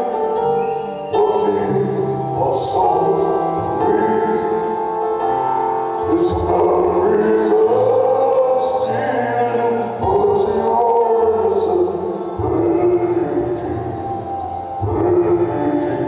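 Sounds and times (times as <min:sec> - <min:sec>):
live band with piano: 0:00.0 - 0:16.0
man singing: 0:00.0 - 0:16.0.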